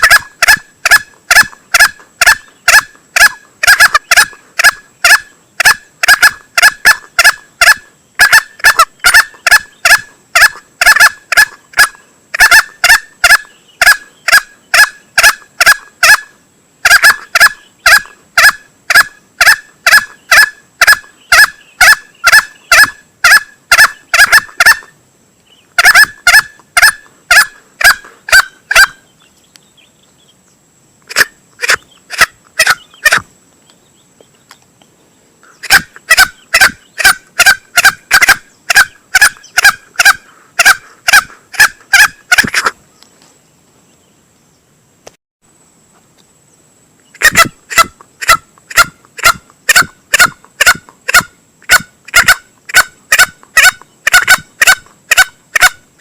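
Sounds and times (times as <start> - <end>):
junglefowl clucking: 0.0 - 25.0, 25.8 - 29.1, 31.1 - 33.3, 35.4 - 42.8, 47.1 - 55.8.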